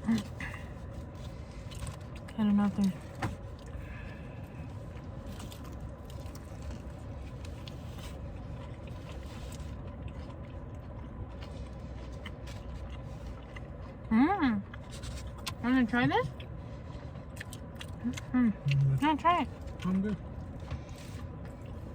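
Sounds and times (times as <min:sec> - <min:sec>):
low rumble and hum: 0:00.0 - 0:21.9
people chewing: 0:00.0 - 0:21.9.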